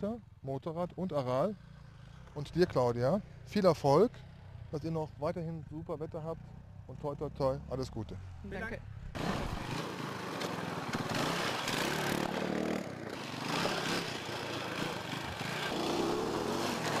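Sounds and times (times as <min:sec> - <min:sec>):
motorcycle engine revving: 0:01.4 - 0:17.0.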